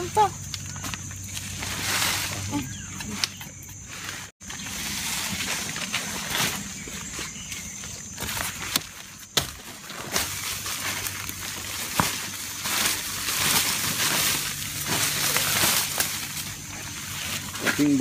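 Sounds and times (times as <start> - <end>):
rustling leaves and soil: 0.0 - 18.0.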